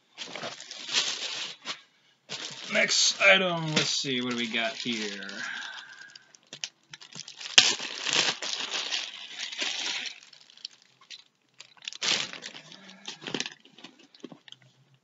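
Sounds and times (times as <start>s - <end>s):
plastic bag crinkling: 0.2s - 14.6s.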